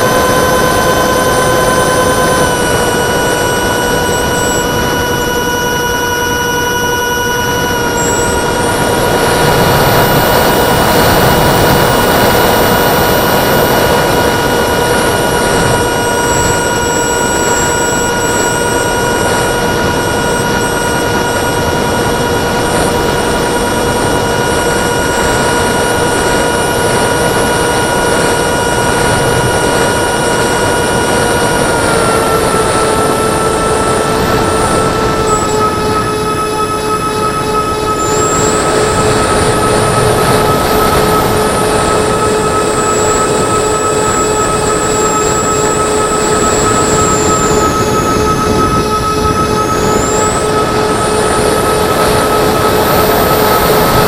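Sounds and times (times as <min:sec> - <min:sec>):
electric ducted fans whining: 0:00.0 - 0:54.0.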